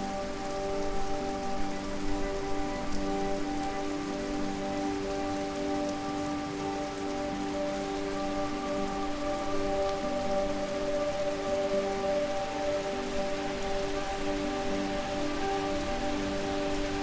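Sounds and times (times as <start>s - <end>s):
ambient music: 0.0s - 17.0s
waterfall rushing: 0.0s - 17.0s.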